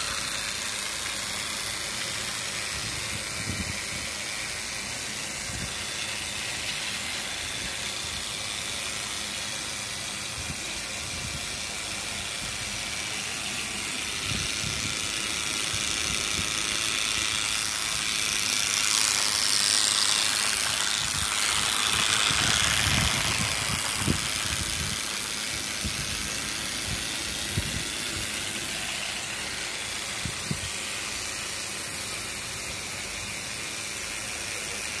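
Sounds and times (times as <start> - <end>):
toy train motor whir: 0.0 - 35.0.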